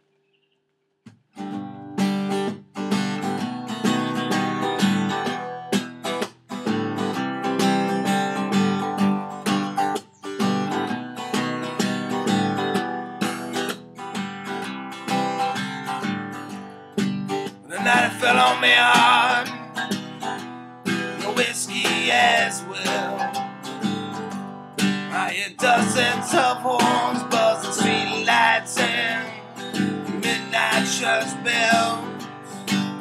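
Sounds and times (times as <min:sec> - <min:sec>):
acoustic guitar strummed: 0:01.3 - 0:33.0.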